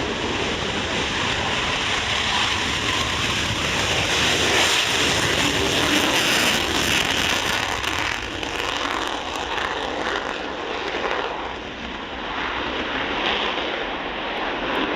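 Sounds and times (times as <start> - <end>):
jets taking off: 0.0 - 14.9.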